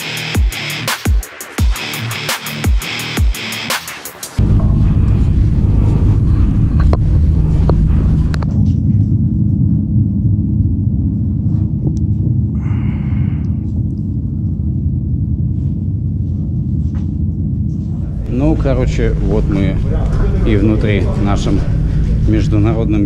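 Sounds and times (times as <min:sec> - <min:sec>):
loud low rumble: 0:04.4 - 0:23.0
low held tones: 0:04.4 - 0:23.0.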